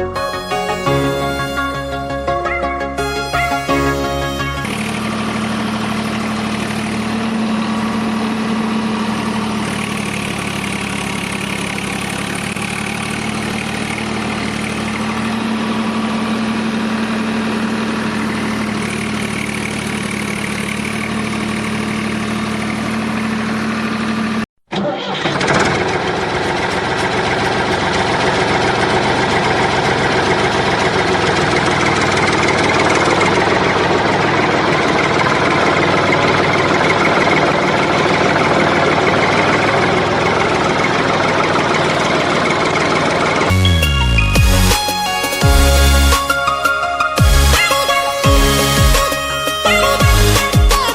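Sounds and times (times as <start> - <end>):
tractor motor running: 0.0 - 50.9.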